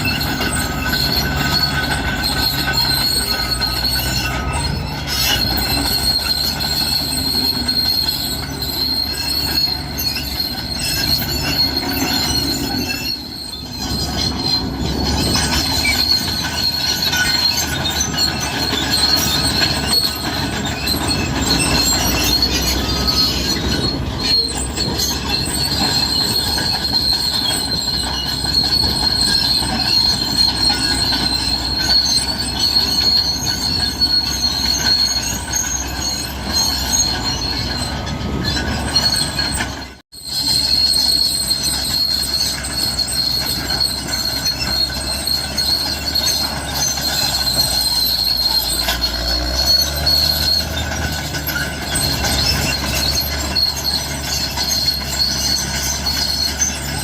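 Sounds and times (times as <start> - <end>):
bulldozer diesel engine: 0.0 - 57.0
steel tracks squealing and clattering: 0.0 - 57.0.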